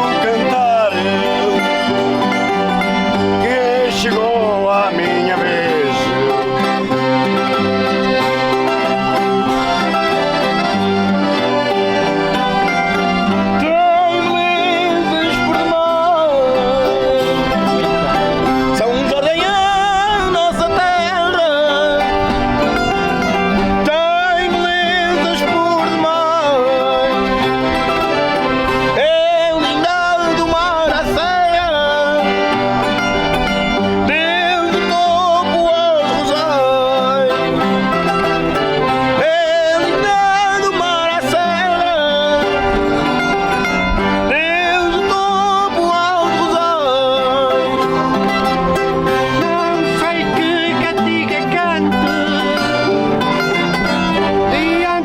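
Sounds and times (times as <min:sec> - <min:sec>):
accordion: 0:00.0 - 0:55.0
folk music on strings: 0:00.0 - 0:55.0
voices singing: 0:00.0 - 0:55.0.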